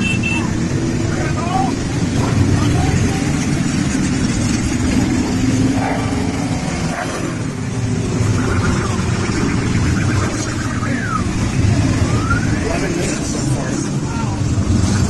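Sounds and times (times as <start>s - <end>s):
motorcycles rumbling past: 0.0s - 15.0s.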